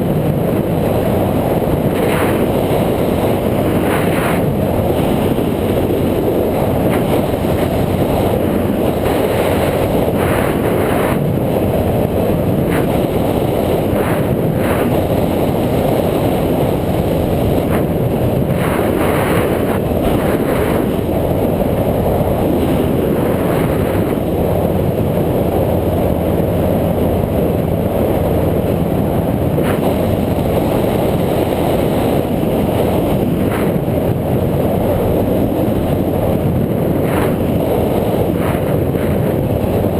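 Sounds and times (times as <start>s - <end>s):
road and vehicle noise: 0.0s - 39.9s
wind buffeting microphone: 0.0s - 39.9s.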